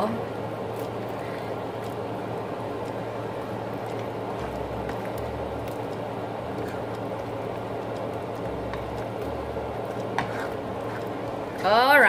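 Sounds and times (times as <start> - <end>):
pot simmering with bubbling hiss: 0.0 - 12.0
faint crackles: 0.4 - 12.0.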